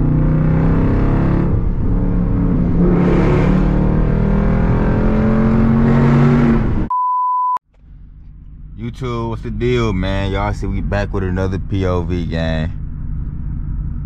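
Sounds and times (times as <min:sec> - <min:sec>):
engine exhaust under hard acceleration: 0:00.0 - 0:06.9, 0:07.7 - 0:14.0.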